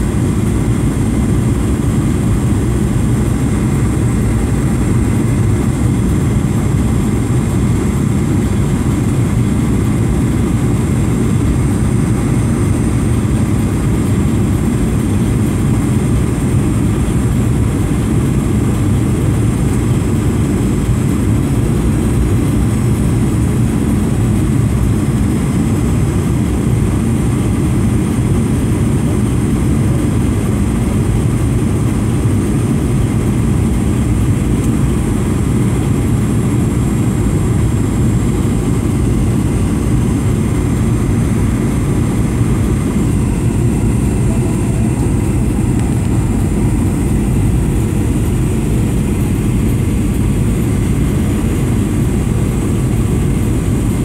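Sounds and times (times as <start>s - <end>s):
airliner cabin engine and airflow rush: 0.0s - 54.0s
faint high whine: 0.0s - 54.0s.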